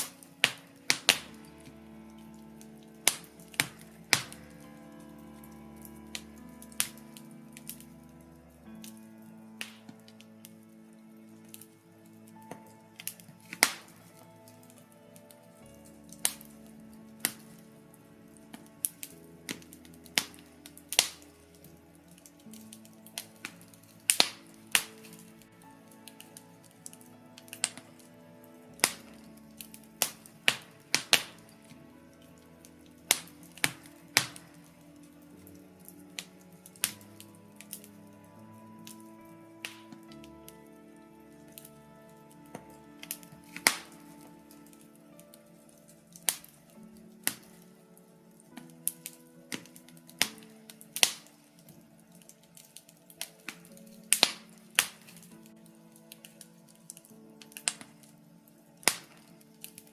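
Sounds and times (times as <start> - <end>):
wood fire crackling and popping: 0.0 - 1.5, 2.1 - 7.9, 9.6 - 10.3, 12.5 - 17.8, 18.5 - 25.4, 26.0 - 28.2, 28.8 - 40.6, 41.3 - 59.9
soft background music: 0.0 - 59.9.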